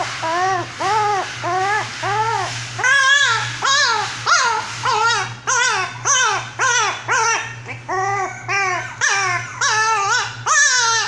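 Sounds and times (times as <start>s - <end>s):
dog whining: 0.0s - 11.0s.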